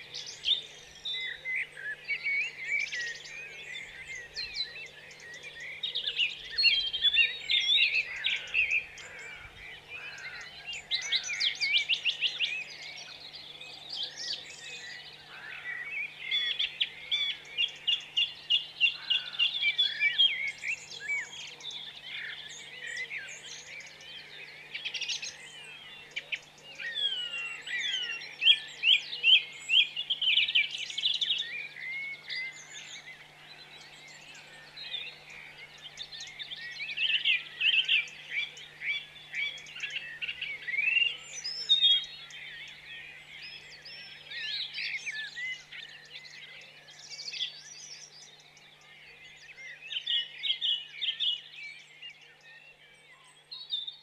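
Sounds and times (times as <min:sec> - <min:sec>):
songbirds singing and chirping: 0:00.0 - 0:54.0.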